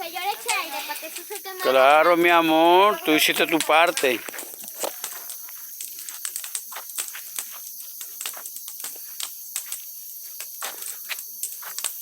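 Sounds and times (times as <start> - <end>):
bonfire crackling and popping: 0.0 - 12.0
insect chorus: 0.0 - 12.0.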